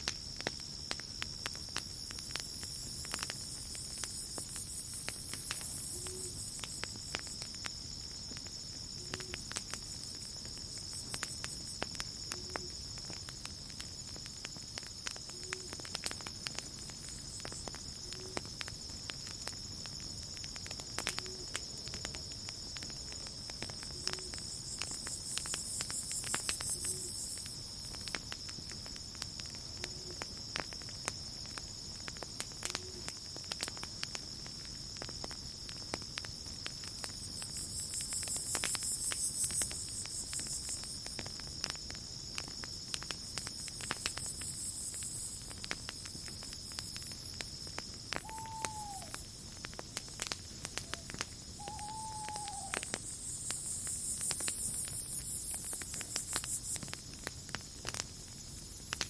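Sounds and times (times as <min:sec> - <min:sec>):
campfire crackling and popping: 0:00.0 - 0:59.0
crickets trilling: 0:00.0 - 0:59.0.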